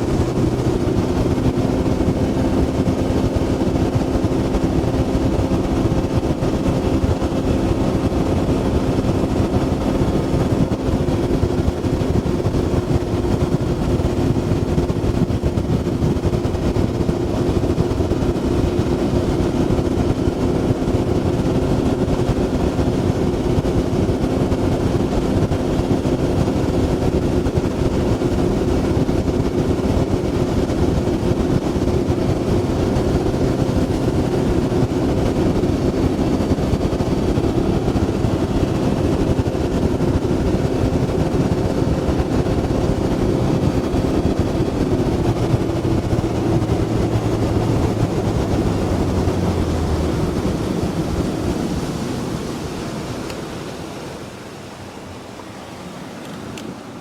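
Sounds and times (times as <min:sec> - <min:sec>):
motorboat engine hum: 0:00.0 - 0:57.0
rushing wind: 0:00.0 - 0:57.0
water noise: 0:00.0 - 0:57.0.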